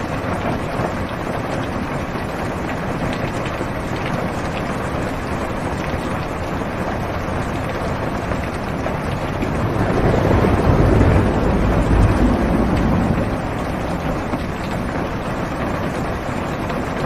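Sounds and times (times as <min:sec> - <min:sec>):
heavy rain on a car roof: 0:00.0 - 0:17.0.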